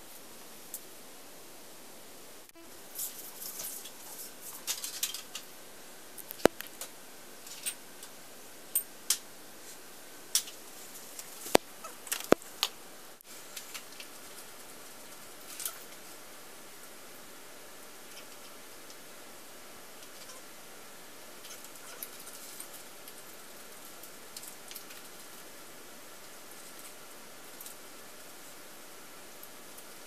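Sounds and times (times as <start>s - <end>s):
steady low hiss: 0.0s - 30.0s.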